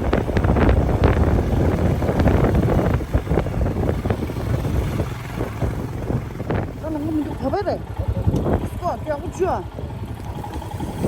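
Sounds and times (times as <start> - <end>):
motorcycle engine rumble: 0.0 - 11.0
wind buffeting microphone: 0.0 - 11.0.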